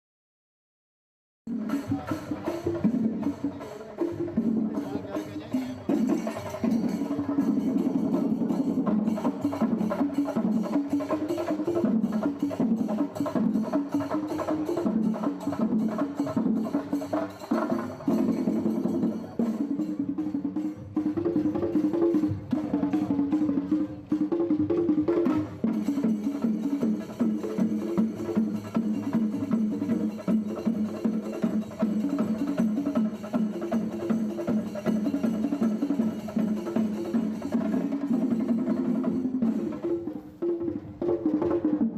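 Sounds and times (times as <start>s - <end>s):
fast drum strokes: 1.5s - 41.9s.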